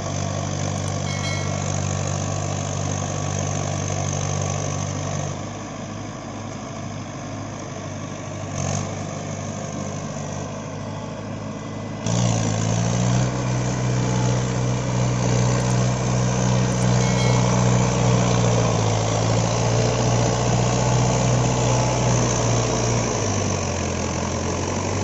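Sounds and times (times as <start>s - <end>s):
tractor diesel engine running hard: 0.0s - 25.0s.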